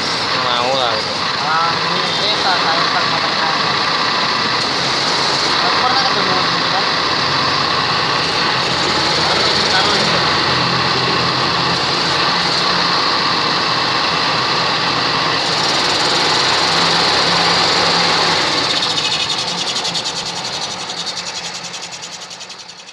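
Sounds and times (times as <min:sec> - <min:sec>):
air-conditioning compressor growling: 0:00.0 - 0:22.9.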